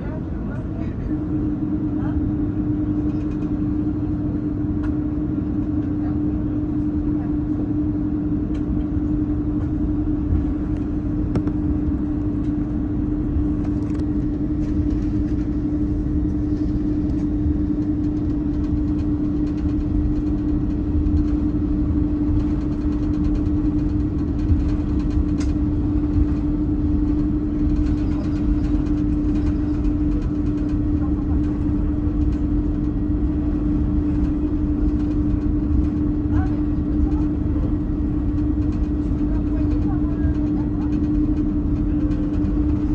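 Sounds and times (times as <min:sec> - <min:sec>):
constant hum: 0:00.0 - 0:42.9
jet engine cabin rumble: 0:00.0 - 0:42.9.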